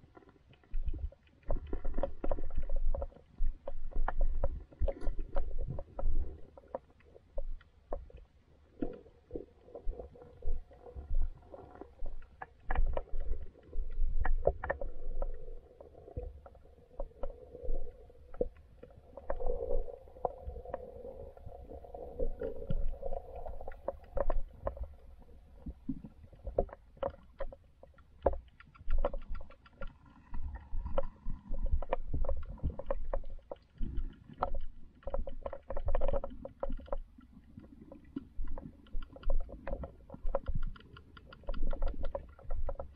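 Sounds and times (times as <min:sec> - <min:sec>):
underwater clicks and knocks: 0:00.0 - 0:42.9
underwater river current rumble: 0:00.0 - 0:42.9.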